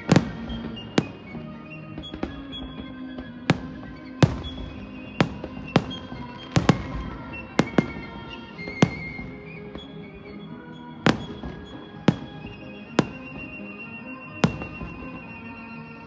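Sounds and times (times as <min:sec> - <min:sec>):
fireworks bursting: 0:00.0 - 0:16.0
music with held notes: 0:00.0 - 0:16.0.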